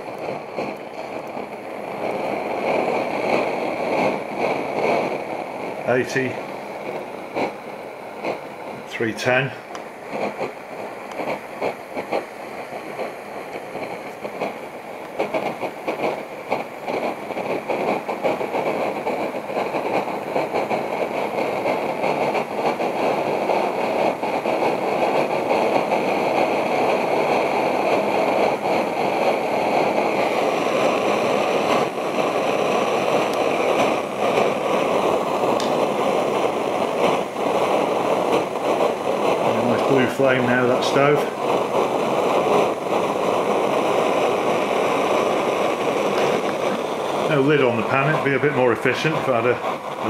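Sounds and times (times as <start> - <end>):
alcohol stove burner rushing: 0.0 - 50.0
water heating in a pan: 0.0 - 50.0.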